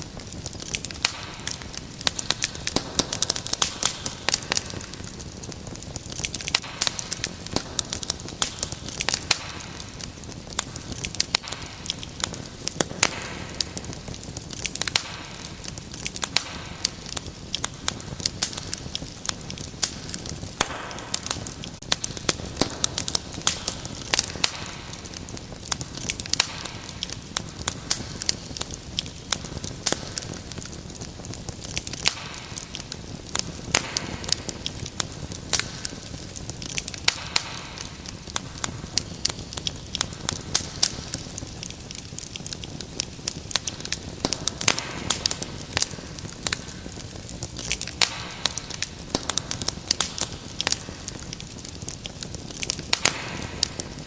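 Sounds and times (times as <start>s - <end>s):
fire hissing softly: 0.0s - 54.0s
wood fire crackling and popping: 0.0s - 54.0s.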